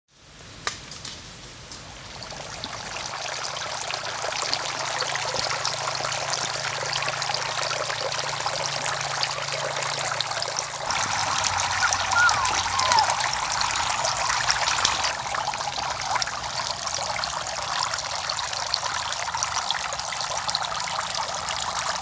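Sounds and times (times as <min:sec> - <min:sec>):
fountain water splashing: 0:01.8 - 0:22.0.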